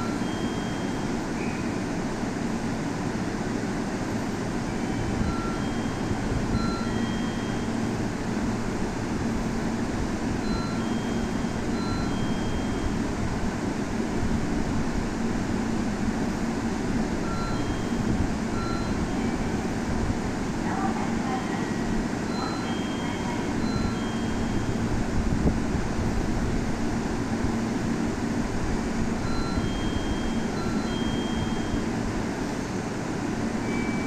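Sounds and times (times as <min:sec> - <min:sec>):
electric train hum: 0:00.0 - 0:34.0.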